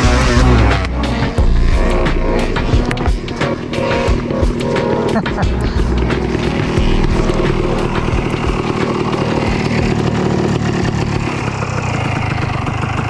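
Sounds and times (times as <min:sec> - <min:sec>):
two-stroke motorbike engine idling: 0:00.0 - 0:13.0.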